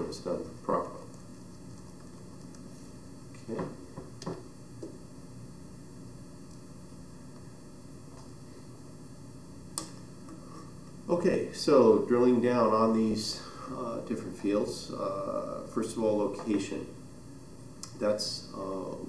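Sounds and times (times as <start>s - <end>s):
low room tone hiss: 0.0s - 19.0s.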